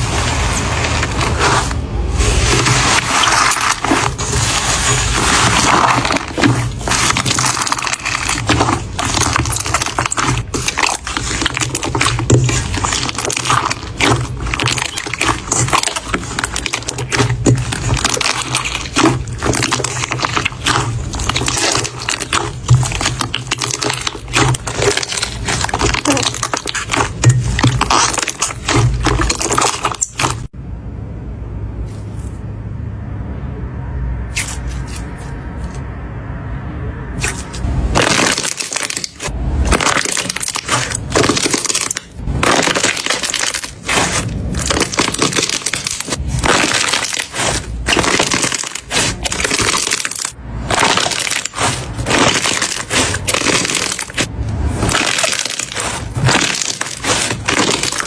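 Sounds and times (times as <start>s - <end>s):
slime squeezed wet crackles: 2.3s - 30.5s, 34.3s - 35.8s, 37.2s - 58.0s.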